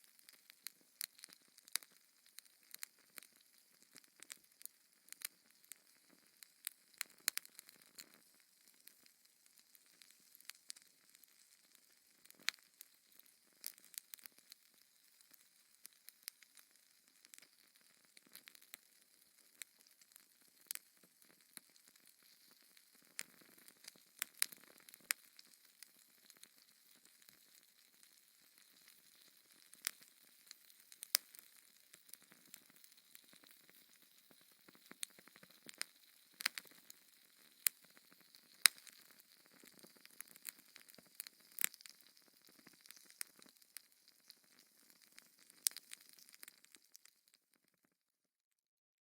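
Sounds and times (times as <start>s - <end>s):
wood fire crackling: 0.0s - 47.4s.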